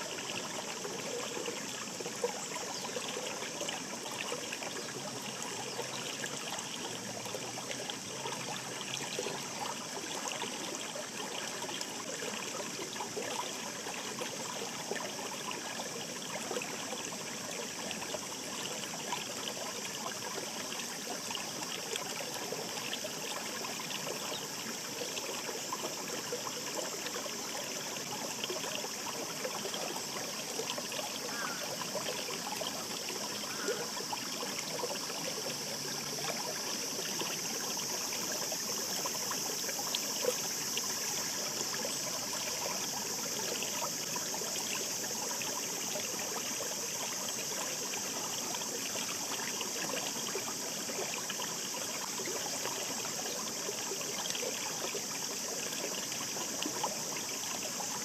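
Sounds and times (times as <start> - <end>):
babbling stream: 0.0 - 58.0.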